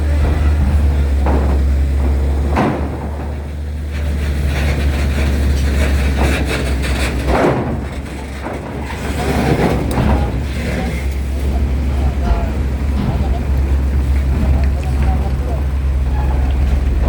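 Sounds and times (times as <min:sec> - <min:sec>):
large vehicle engines rumbling: 0:00.0 - 0:17.0.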